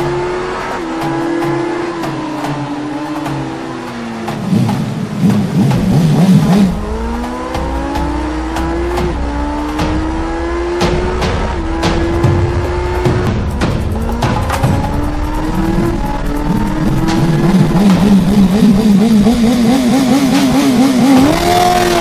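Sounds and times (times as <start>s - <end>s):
motorcycle engines accelerating: 0.0s - 22.0s.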